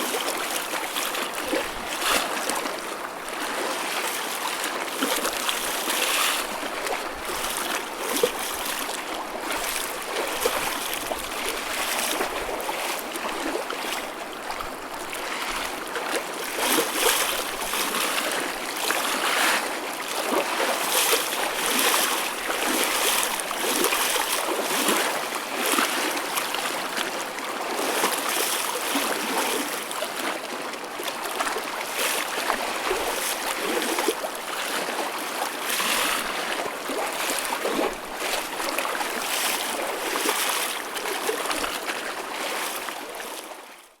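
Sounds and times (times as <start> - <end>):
choppy ocean waves splashing: 0.0 - 43.6.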